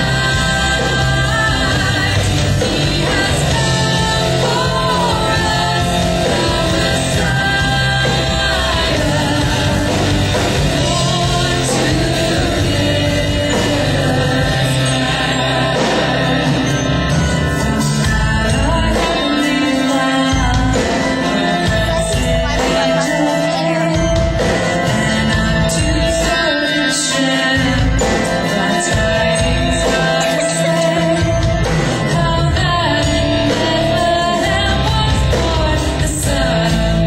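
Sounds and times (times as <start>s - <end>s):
loud music with singer: 0.0s - 37.0s.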